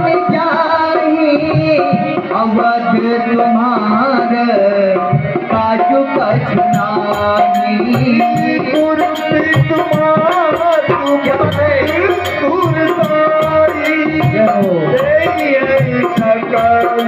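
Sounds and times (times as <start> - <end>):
devotional melody: 0.0 - 17.0
tabla: 0.0 - 17.0.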